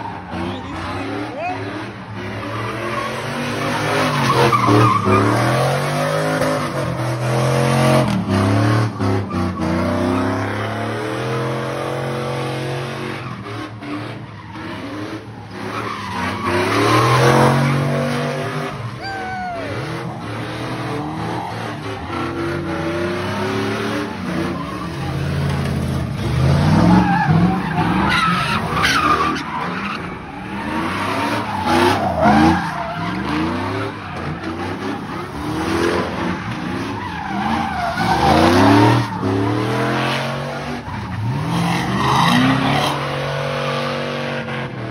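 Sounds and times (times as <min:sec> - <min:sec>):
truck engine revving: 0:00.0 - 0:19.0, 0:19.6 - 0:44.9.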